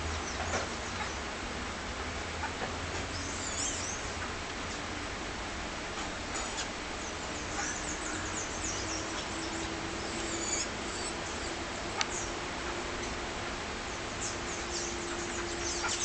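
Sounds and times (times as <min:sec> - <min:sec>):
songbirds chirping: 0:02.4 - 0:05.1, 0:05.8 - 0:16.0.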